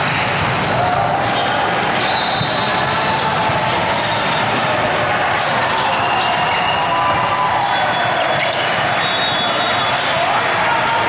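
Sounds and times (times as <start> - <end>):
background din in hall: 0.0 - 11.0.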